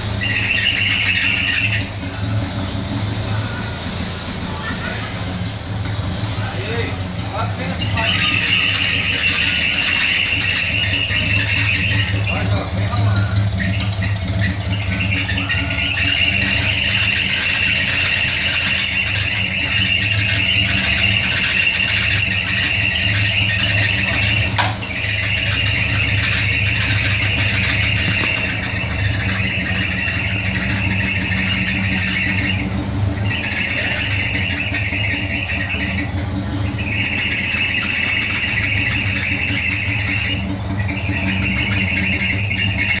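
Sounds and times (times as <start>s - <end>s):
car engine running: 0.0s - 43.0s
drive belt squealing: 0.0s - 43.0s.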